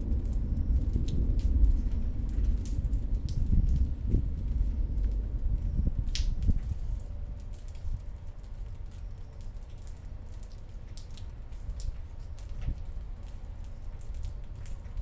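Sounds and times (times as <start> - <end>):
low thunder rumble: 0.0 - 15.0
raindrops pattering: 0.0 - 15.0.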